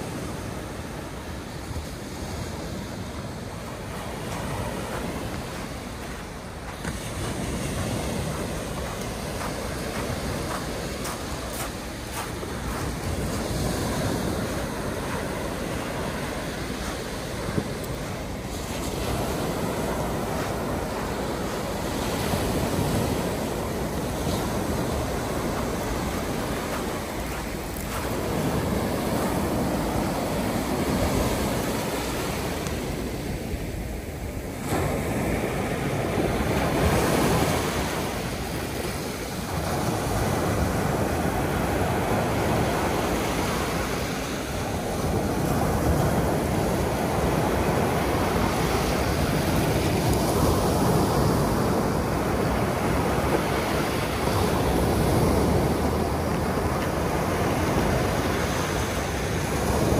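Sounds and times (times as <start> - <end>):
sea waves washing onto beach: 0.0 - 59.9.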